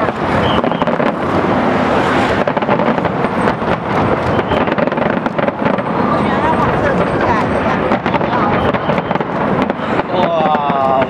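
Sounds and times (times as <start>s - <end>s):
steady rumble: 0.0s - 10.2s
fireworks bursting with crackling: 0.0s - 11.0s.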